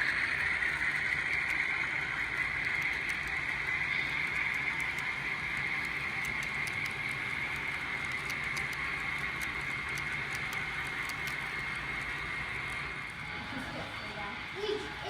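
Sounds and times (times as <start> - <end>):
wheels clicking over rail joints: 0.0 - 12.9
model locomotive whine: 0.0 - 15.0.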